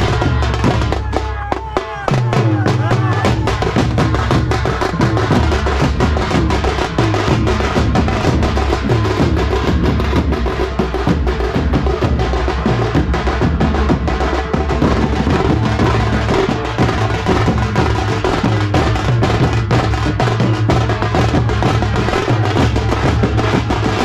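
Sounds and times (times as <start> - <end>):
bass drums: 0.0 - 24.0
drum band playing fast rhythm: 0.0 - 24.0.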